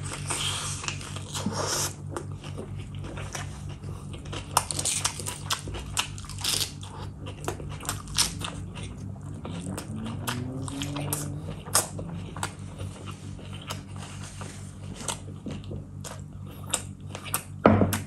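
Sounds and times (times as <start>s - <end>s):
wet chewing: 0.0s - 18.0s.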